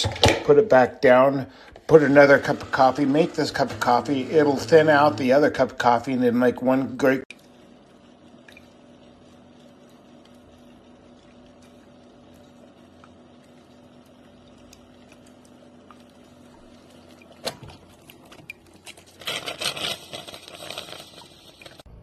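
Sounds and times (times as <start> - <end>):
coffee maker hissing and sputtering: 0.0 - 18.0, 18.8 - 22.0
coffee maker pump humming: 0.0 - 22.0.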